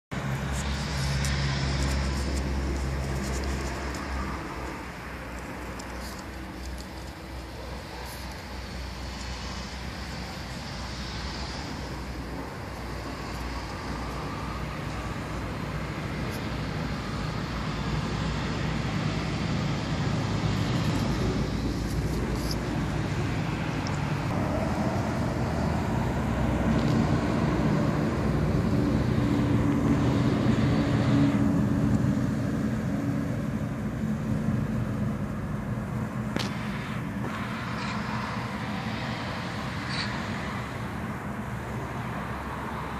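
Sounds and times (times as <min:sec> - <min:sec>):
traffic rumble: 0:00.1 - 0:42.9
vehicle engine running: 0:00.1 - 0:42.9.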